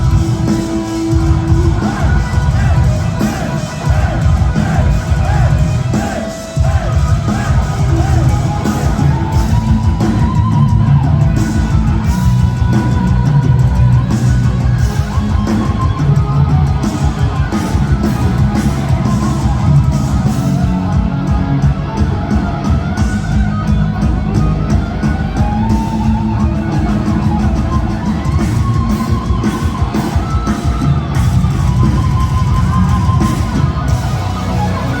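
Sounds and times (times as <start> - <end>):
electric lead guitar melody: 0.0 - 35.0
live heavy metal band: 0.0 - 35.0.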